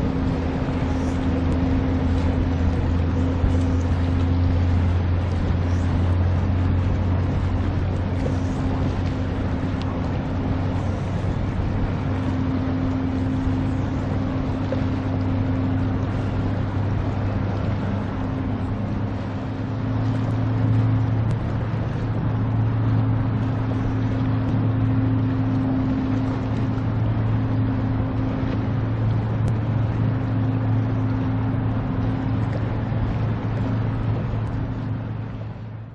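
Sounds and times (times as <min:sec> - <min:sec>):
ship engines droning: 0:00.0 - 0:35.9
wash of boat wakes: 0:00.0 - 0:35.9.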